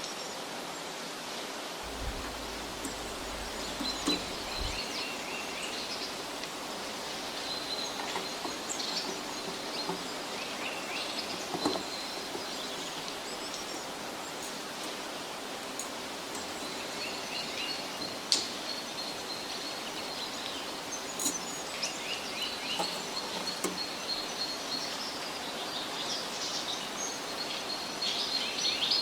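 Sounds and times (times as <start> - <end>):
birds chirping and trilling: 1.8 - 29.0
steady hiss: 1.8 - 29.0.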